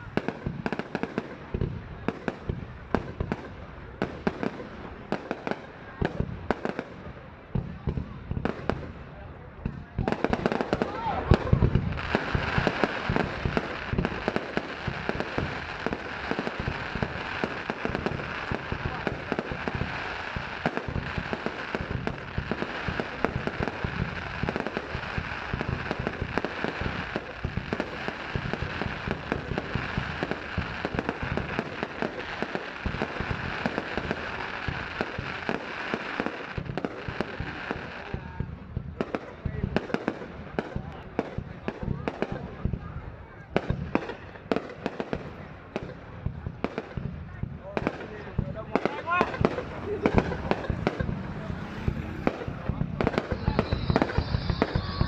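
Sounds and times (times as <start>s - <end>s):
fireworks popping and crackling: 0.0s - 55.0s.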